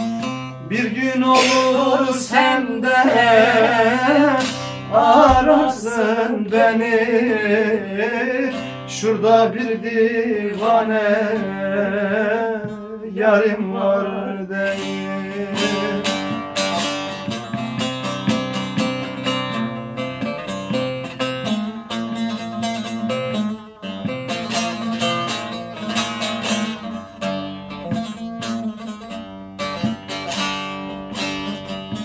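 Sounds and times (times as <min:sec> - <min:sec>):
long-necked lute strummed and plucked: 0:00.0 - 0:32.0.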